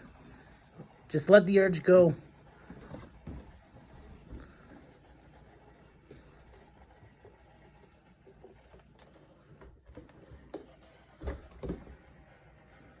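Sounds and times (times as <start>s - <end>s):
robot vacuum humming: 0.0s - 13.0s.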